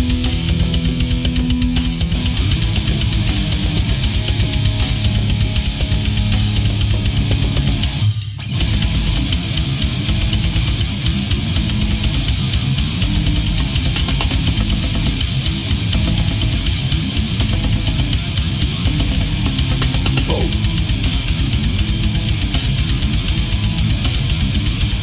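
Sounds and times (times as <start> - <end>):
heavy metal band playing: 0.0 - 25.0.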